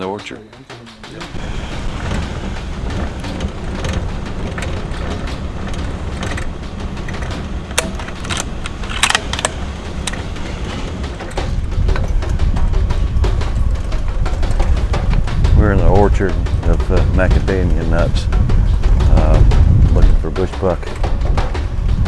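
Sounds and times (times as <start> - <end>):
loose metal rattling: 0.3 - 22.0
truck engine and tyres rumbling: 1.0 - 22.0.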